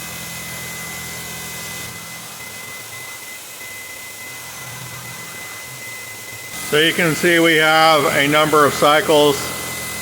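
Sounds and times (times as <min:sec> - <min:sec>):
milling machine cutting: 0:00.0 - 0:10.0.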